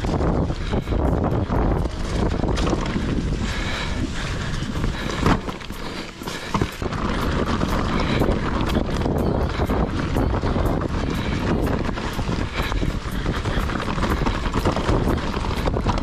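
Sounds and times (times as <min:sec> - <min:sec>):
bike clicks and rattles: 0:00.0 - 0:16.0
wind on microphone: 0:00.0 - 0:16.0.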